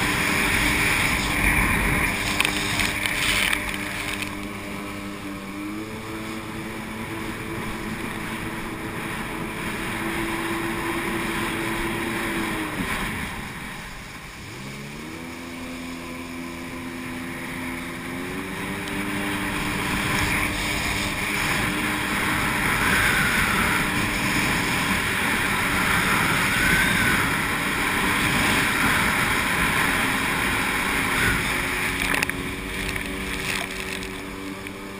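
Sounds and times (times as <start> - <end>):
personal watercraft engine running: 0.0 - 34.9
wind: 0.0 - 34.9.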